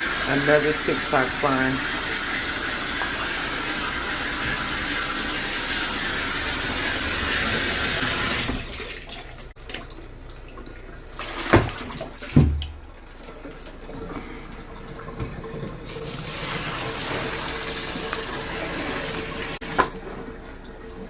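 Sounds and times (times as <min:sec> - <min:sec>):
washing machine water rushing: 0:00.0 - 0:21.0.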